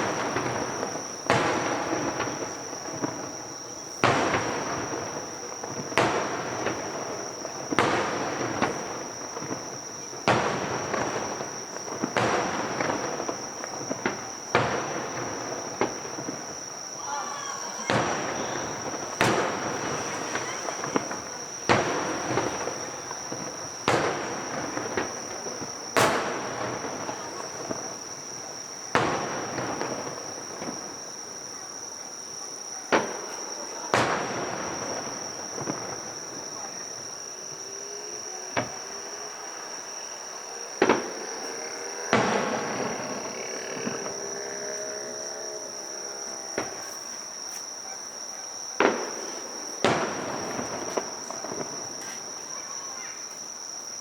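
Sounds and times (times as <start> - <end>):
firework shells bursting: 0.0 - 30.9, 38.5 - 47.4, 48.8 - 52.4
insects chirring: 0.0 - 54.0.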